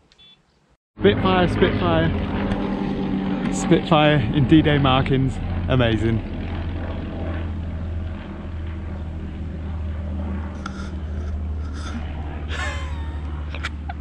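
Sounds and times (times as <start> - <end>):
piston aircraft engine drone: 1.0 - 14.0.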